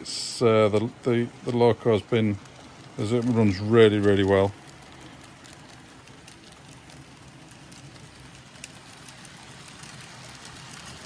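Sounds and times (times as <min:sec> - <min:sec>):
light irregular ticking: 0:00.0 - 0:11.0
model trains running on track: 0:00.0 - 0:11.0.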